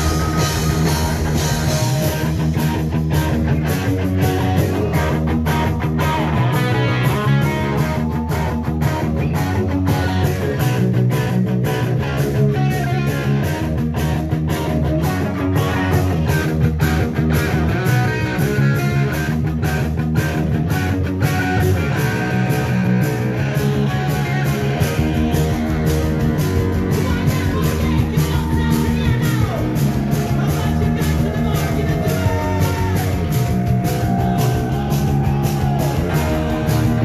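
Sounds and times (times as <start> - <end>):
bass guitar: 0.0 - 37.0
distorted electric guitars: 0.0 - 37.0
steady drum beat: 0.0 - 37.0.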